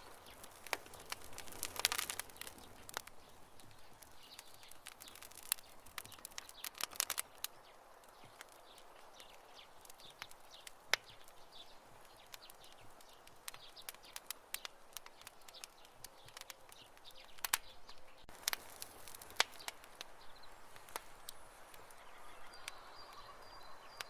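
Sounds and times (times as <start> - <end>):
campfire crackling and popping: 0.0 - 24.0
soft steady fire hiss: 0.0 - 24.0.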